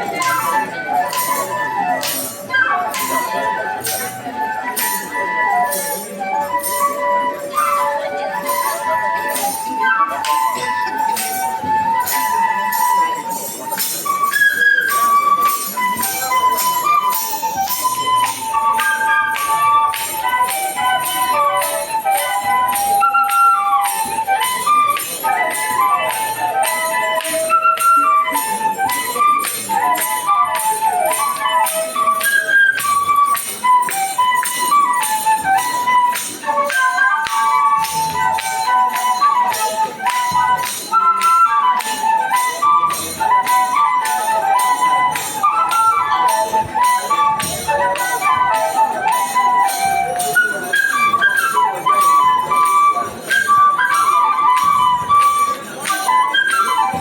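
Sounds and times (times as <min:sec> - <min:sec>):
flute melody: 0:00.0 - 0:57.0
jingle rattles shaken: 0:00.0 - 0:57.0.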